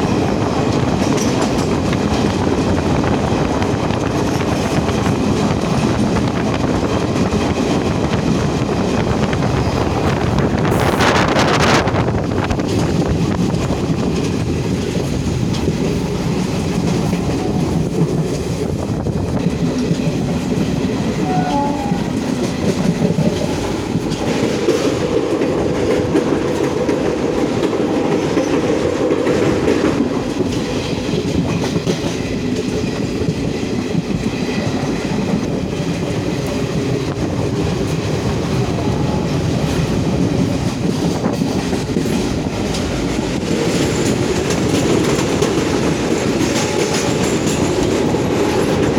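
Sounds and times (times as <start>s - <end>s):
train rumbling on track: 0.0s - 48.9s
wheels rattling on rail: 0.0s - 48.9s.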